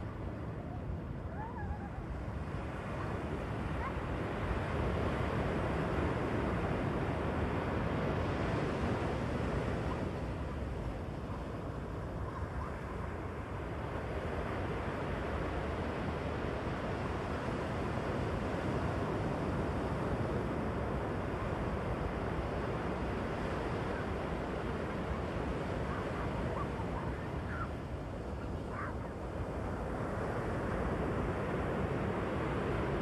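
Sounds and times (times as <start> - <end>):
waves breaking on a beach: 0.0 - 33.0.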